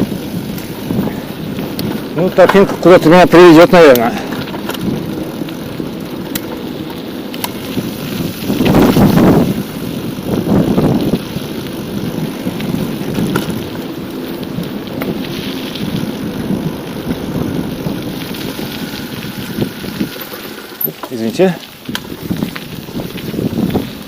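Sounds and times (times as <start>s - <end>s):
wind and riding noise on bicycle: 0.0s - 24.0s.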